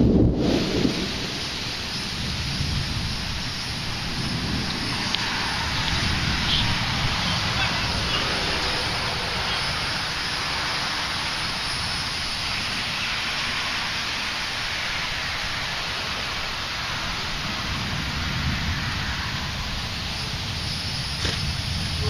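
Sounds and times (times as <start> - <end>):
low thunder rumble: 0.0 - 22.0
rain hissing: 0.0 - 22.0.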